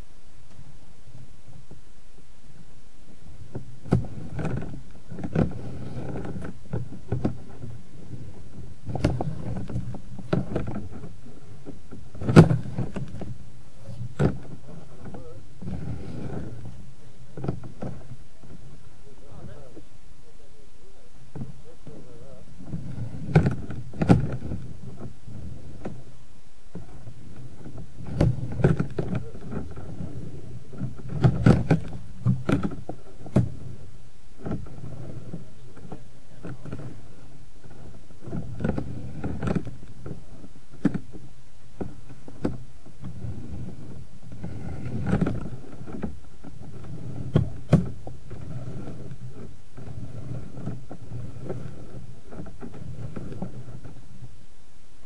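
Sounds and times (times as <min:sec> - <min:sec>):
steady low background noise: 0:00.0 - 0:55.0.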